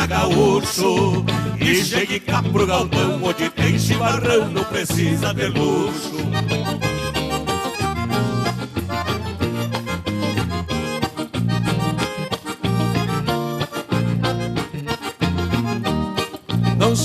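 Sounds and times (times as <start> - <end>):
accordion melody: 0.0 - 17.0
band accompaniment with bass: 0.0 - 17.0.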